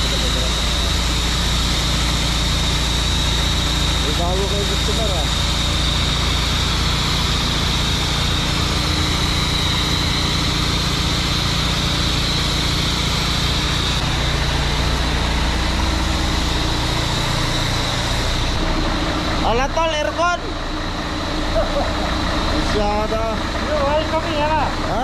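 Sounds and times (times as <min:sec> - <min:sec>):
diesel truck engine idling: 0:00.0 - 0:25.0
thin high whine: 0:00.0 - 0:25.0.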